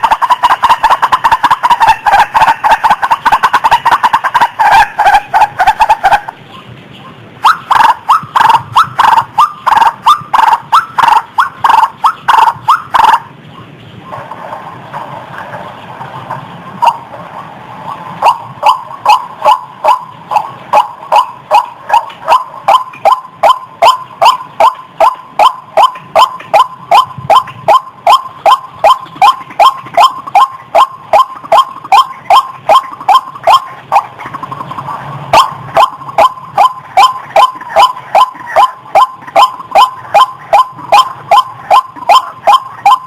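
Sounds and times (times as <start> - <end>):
waterhen harsh calls: 0.0 - 6.4, 7.4 - 13.4, 15.6 - 43.0.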